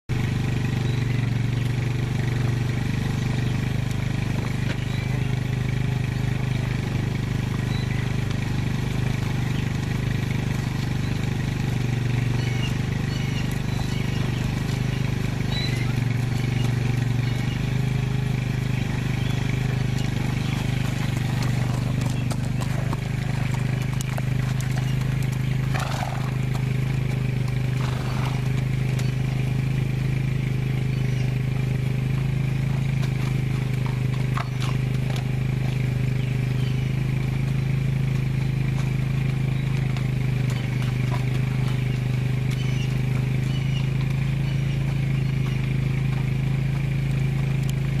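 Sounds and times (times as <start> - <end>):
steady low motor hum: 0.1 - 48.0.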